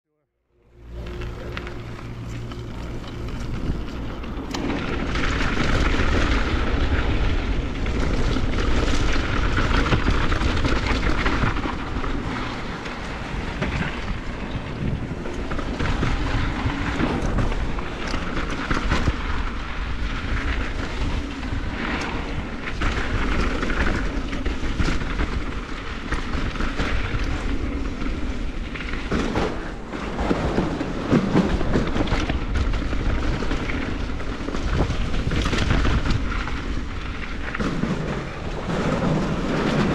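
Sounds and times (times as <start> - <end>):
wheels on wooden boardwalk: 0.6 - 39.9
bike rattling and knocking: 0.7 - 39.9
tyres rolling over gravel: 0.7 - 39.9
wind rushing over microphone: 0.7 - 39.9.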